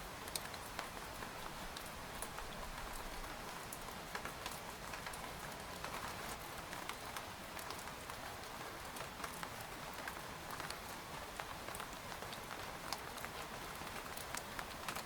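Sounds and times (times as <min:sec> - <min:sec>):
rain on a tent: 0:00.0 - 0:15.0.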